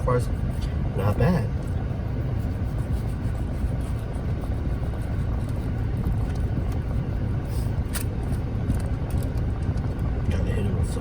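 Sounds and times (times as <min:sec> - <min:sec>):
car rumbling: 0:00.0 - 0:11.0.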